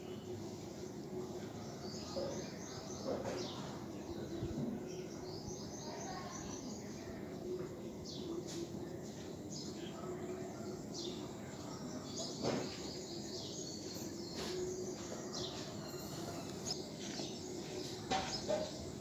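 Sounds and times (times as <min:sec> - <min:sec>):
birds chirping: 0:00.0 - 0:19.0
steady background noise: 0:00.0 - 0:19.0.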